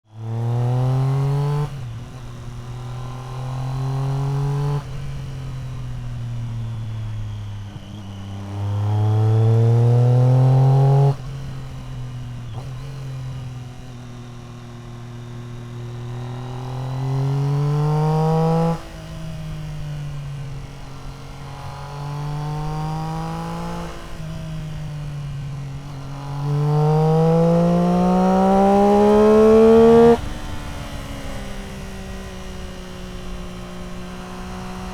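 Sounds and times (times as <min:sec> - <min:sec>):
motorcycle engine revving hard: 0:00.2 - 0:34.9.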